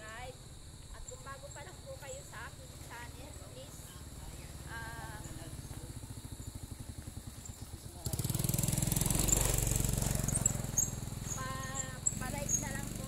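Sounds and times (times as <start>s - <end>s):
vehicle engine running: 1.4s - 13.0s.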